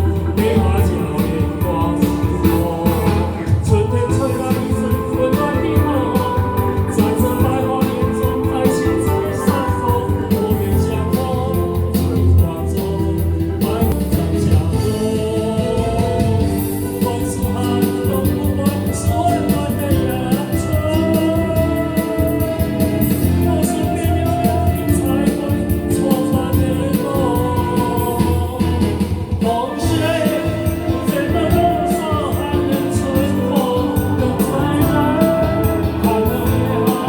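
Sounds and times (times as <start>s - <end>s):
person singing over backing music: 0.0s - 37.0s.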